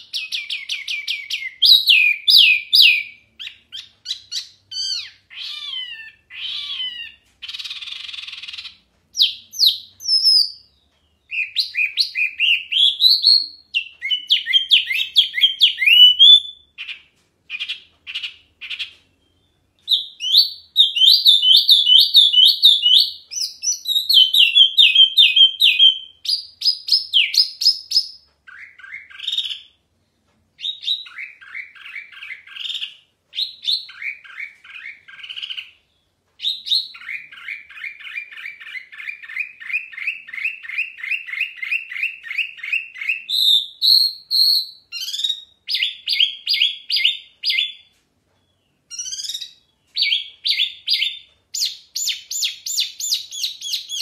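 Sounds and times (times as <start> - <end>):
songbird singing: 0.0 - 29.8, 30.6 - 54.0.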